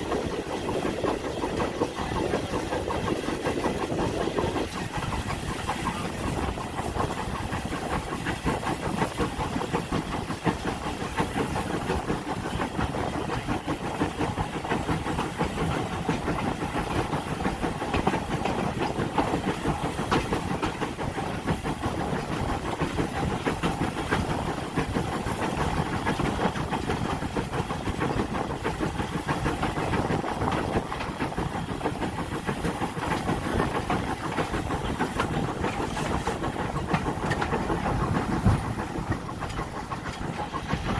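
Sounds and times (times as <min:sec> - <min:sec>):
hiss: 0:00.0 - 0:40.9
rail rumble: 0:00.0 - 0:40.9
train engine noise: 0:00.0 - 0:40.9.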